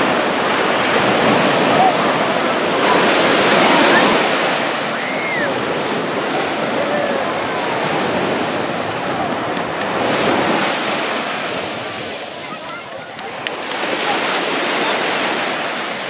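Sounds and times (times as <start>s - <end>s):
faint distant voices: 0.0s - 16.0s
ocean surf breaking on sand: 0.0s - 16.0s.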